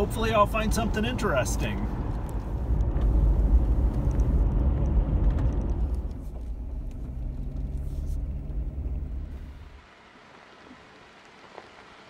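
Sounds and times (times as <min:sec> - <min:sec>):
low engine drone: 0:00.0 - 0:09.8
road noise rumble: 0:00.0 - 0:12.0.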